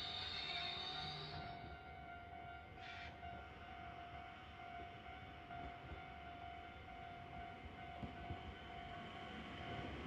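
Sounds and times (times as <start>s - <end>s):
electric locomotive whine: 0.0s - 10.0s.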